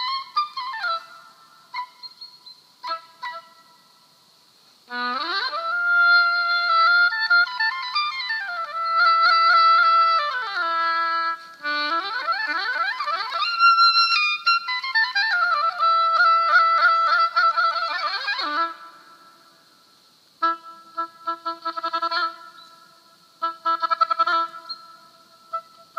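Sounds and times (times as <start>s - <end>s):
solo oboe: 0.0s - 4.2s, 4.9s - 25.9s.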